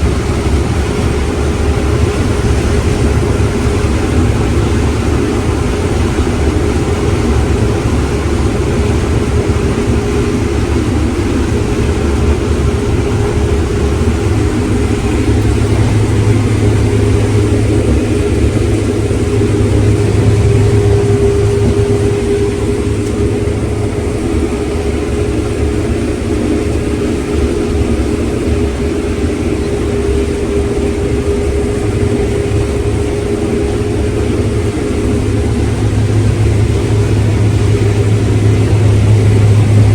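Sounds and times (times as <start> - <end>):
farm machinery engine droning: 0.0 - 39.9.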